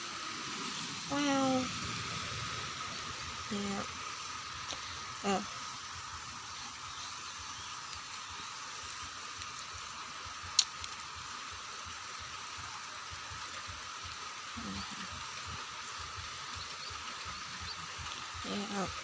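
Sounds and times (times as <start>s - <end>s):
light rain falling: 0.0s - 19.0s.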